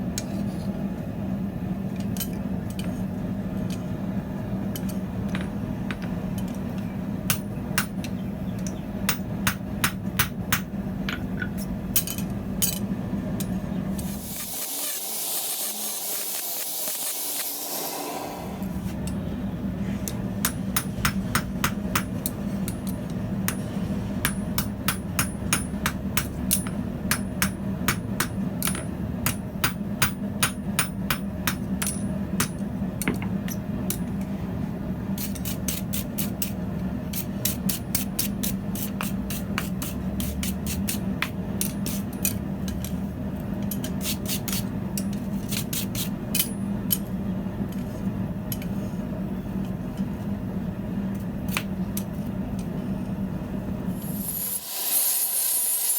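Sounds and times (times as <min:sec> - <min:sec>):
steady low hum: 0:00.0 - 0:14.7, 0:18.2 - 0:54.5.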